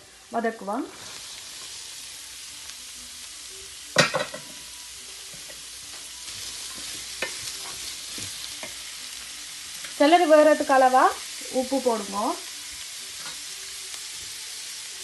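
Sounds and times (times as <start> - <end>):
celery sizzling in hot oil: 0.0 - 15.0.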